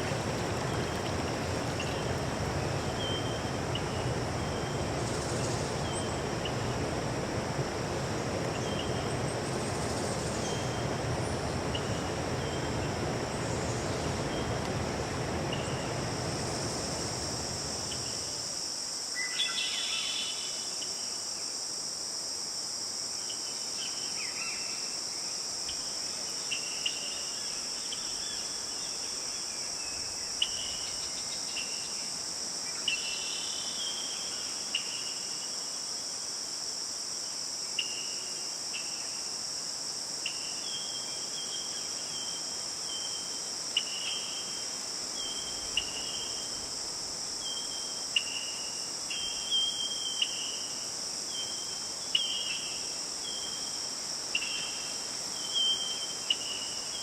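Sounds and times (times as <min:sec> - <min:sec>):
insects droning: 0:00.0 - 0:57.0
short cricket chirps: 0:00.0 - 0:57.0.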